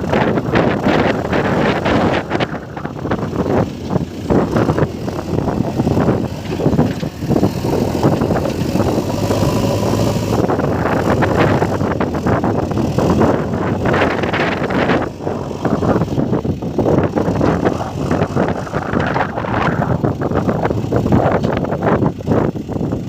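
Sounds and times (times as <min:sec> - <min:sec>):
heavy machinery diesel engine: 0:00.0 - 0:23.0
wind on microphone: 0:00.0 - 0:23.0
knocks and rattles: 0:00.2 - 0:21.9.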